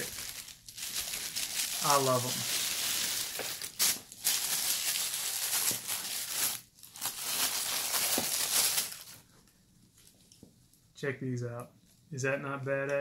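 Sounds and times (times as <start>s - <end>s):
plastic and tissue paper crinkling: 0.0s - 10.7s.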